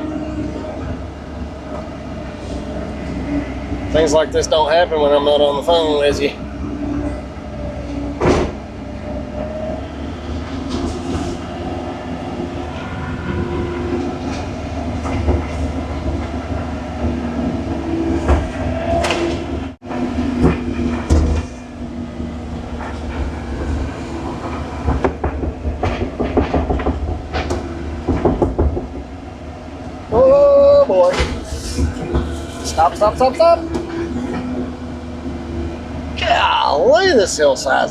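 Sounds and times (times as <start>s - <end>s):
clanks and knocks from tracks: 0.0s - 36.2s
excavator diesel engine under load: 0.0s - 37.9s.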